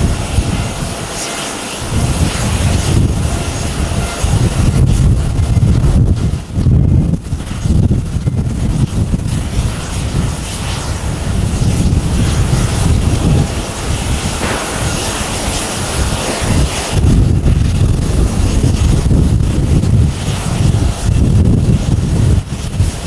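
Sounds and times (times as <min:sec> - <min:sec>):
jet engines idling: 0:00.0 - 0:23.0
wind buffeting microphone: 0:00.0 - 0:23.0.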